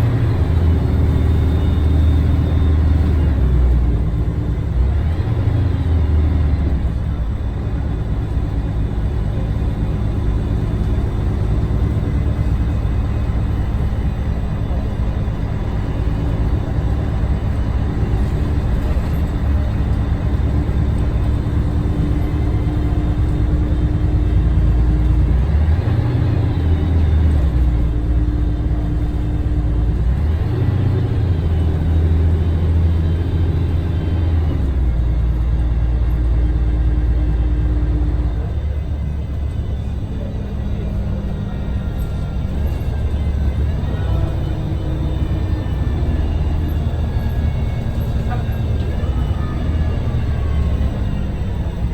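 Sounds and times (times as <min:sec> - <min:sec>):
diesel bus engine running: 0:00.0 - 0:51.9.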